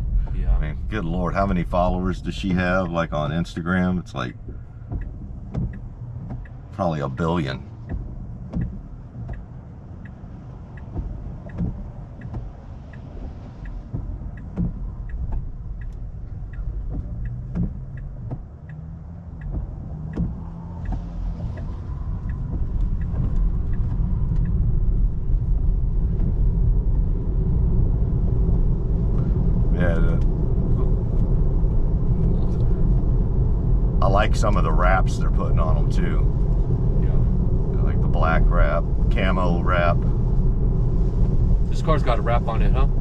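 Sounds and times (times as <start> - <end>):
light ticking: 0.0 - 43.0
road and tyre rumble: 0.0 - 43.0.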